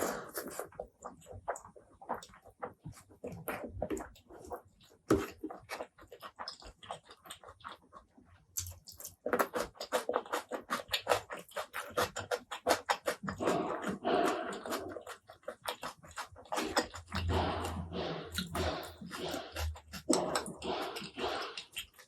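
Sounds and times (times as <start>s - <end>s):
wet chewing and lip smacking: 0.0s - 22.0s.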